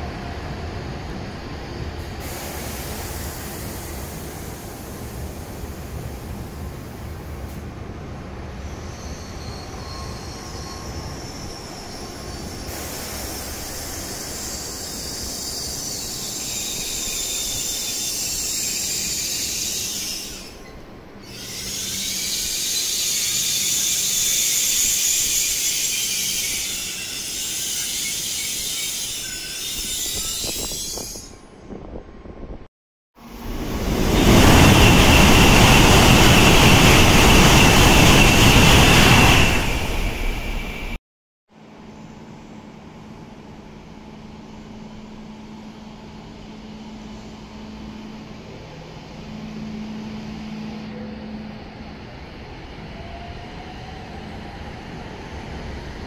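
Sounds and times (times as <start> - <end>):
train rumbling on tracks: 0.0 - 41.0, 41.6 - 56.0.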